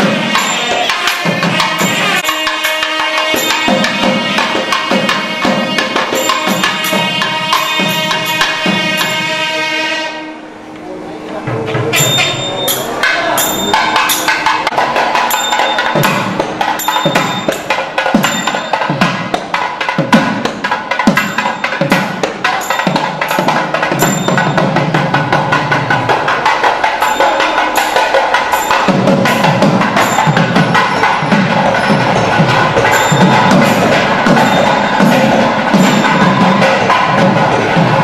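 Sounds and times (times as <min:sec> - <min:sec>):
procession drums beating: 0:00.0 - 0:09.8, 0:11.4 - 0:38.0.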